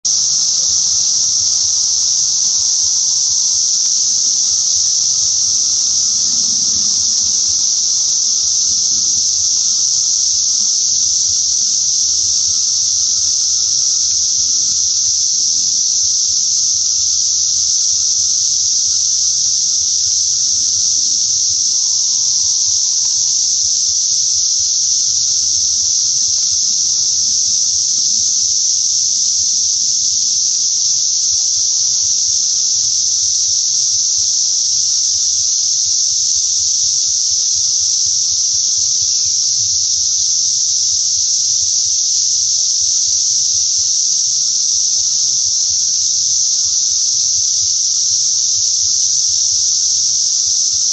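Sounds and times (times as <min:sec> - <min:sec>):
cicadas droning: 0:00.0 - 0:50.9.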